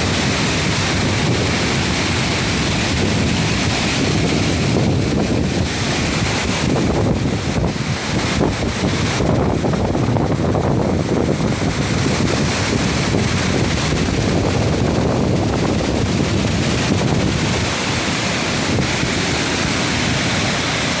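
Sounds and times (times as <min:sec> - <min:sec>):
waterfall rushing: 0:00.0 - 0:21.0
wind buffeting microphone: 0:00.0 - 0:21.0.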